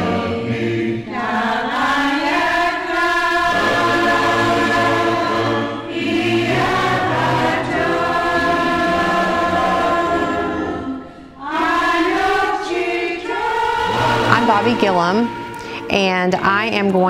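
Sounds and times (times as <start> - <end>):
choir singing long held notes: 0.0 - 17.0.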